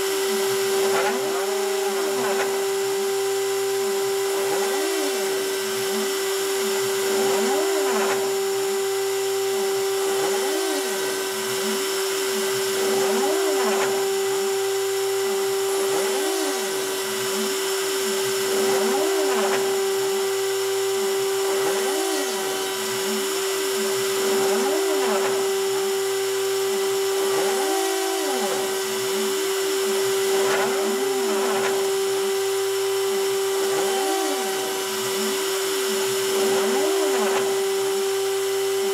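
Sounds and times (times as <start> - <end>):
spindle steady whine: 0.0 - 38.9
stepper motors whining: 0.0 - 38.9.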